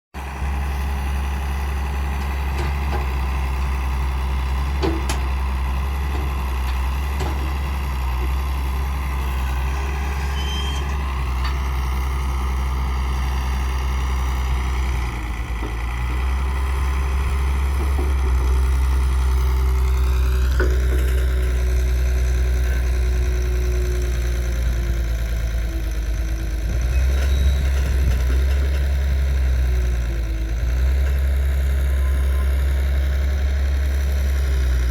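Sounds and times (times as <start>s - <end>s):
heavy diesel engines rumbling: 0.2s - 34.9s.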